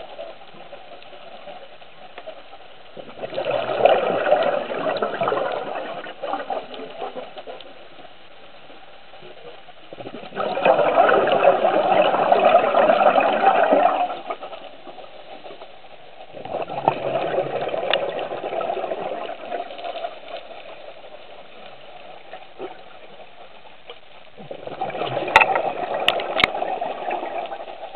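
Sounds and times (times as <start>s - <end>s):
underwater regulator bubbling: 3.0s - 8.2s, 9.2s - 15.6s, 16.2s - 23.4s, 24.4s - 27.9s.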